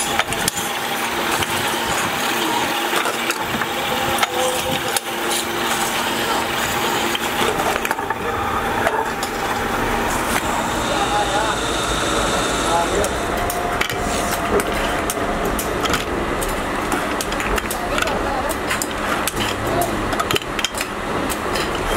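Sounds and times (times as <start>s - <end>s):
seaming machine humming: 0.0s - 21.9s.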